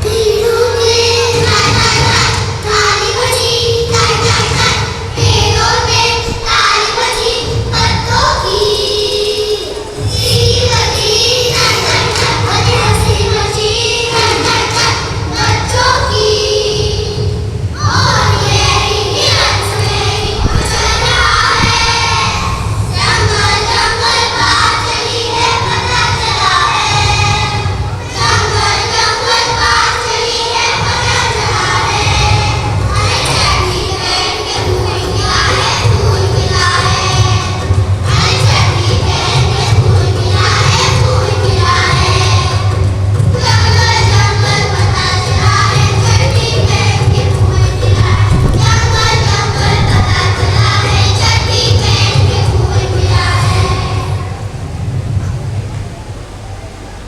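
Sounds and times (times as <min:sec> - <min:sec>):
children singing: 0:00.0 - 0:54.5
music: 0:00.0 - 0:55.7.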